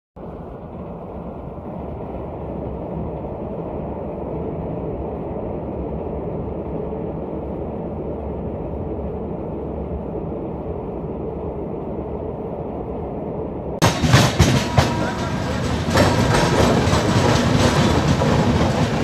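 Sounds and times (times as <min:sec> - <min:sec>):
train crossing a steel bridge: 0:00.2 - 0:19.0.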